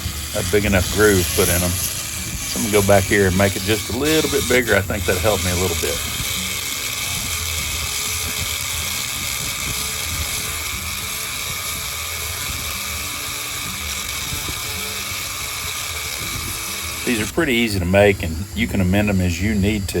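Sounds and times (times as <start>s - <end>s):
power tool grinding steel: 0.0s - 20.0s.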